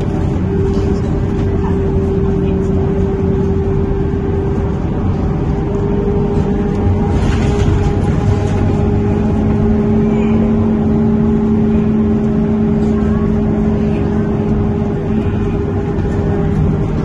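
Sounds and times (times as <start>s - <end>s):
bus interior engine drone: 0.0s - 17.0s
radiator fan hum: 0.0s - 17.0s.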